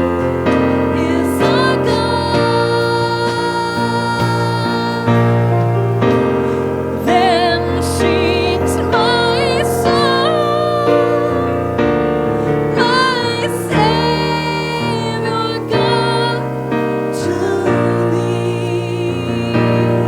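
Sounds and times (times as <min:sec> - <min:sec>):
keyboard chords: 0:00.0 - 0:20.0
person singing with vibrato: 0:00.0 - 0:20.0.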